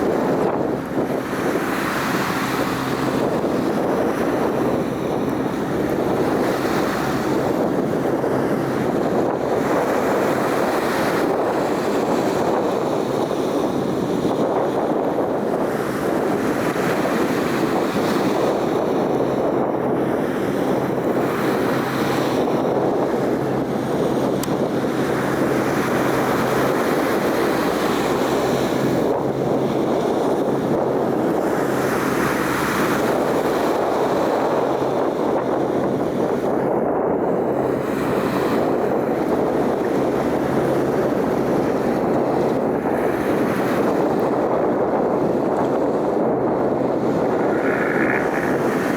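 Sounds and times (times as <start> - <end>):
wind on microphone: 0.0 - 48.9.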